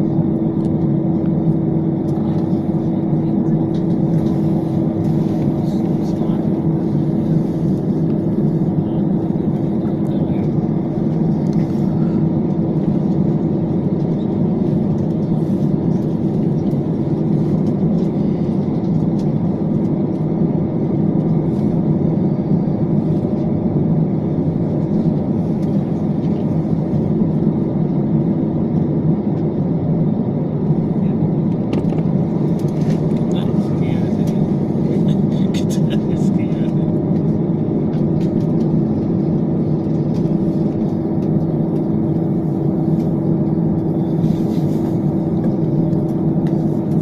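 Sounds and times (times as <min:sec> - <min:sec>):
constant hum: 0:00.0 - 0:47.0
loud mechanical drone: 0:00.0 - 0:47.0.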